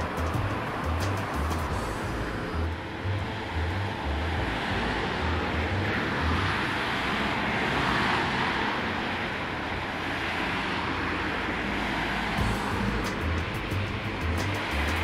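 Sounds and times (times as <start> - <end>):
cars passing on road: 0.0 - 15.0.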